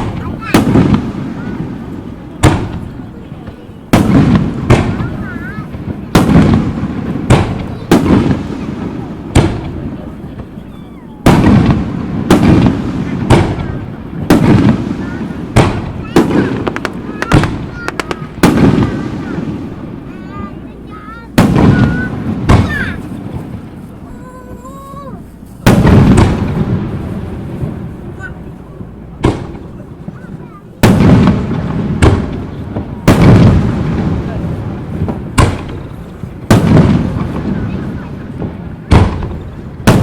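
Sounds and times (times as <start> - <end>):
fireworks booming: 0.0 - 40.0.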